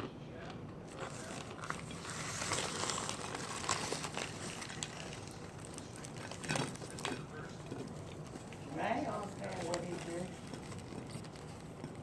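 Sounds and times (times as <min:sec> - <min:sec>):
chewing crunchy chunks: 0:00.0 - 0:12.0.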